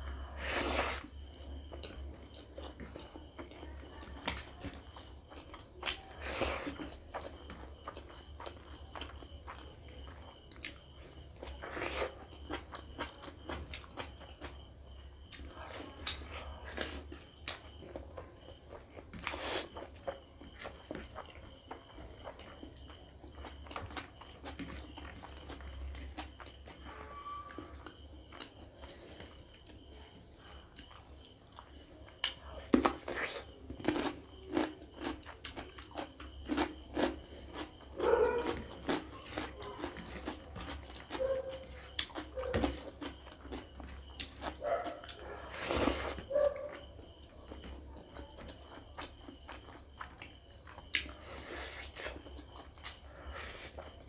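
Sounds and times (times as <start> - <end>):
close-up chewing: 0.1 - 26.9, 27.5 - 54.0.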